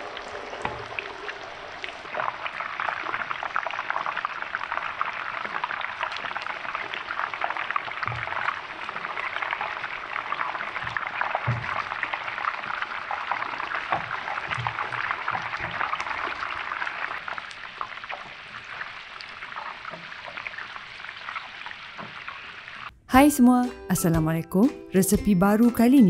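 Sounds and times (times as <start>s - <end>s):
meatballs sizzling in hot oil: 0.0s - 22.9s.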